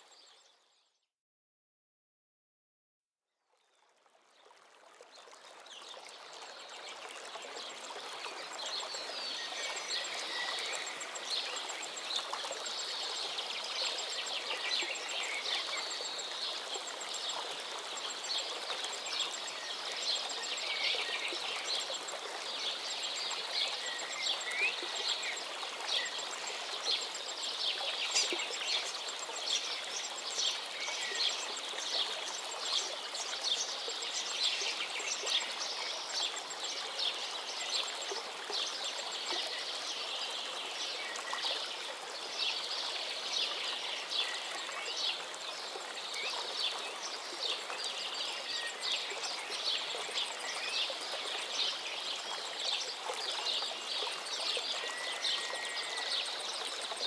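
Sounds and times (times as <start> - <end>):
stream rushing over stones: 4.0 - 57.0.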